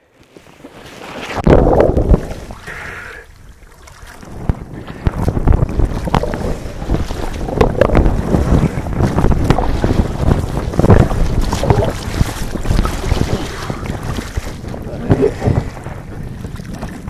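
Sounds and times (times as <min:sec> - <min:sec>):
water splashing and sloshing: 0:00.2 - 0:17.0
wind rumble on microphone: 0:00.4 - 0:17.0.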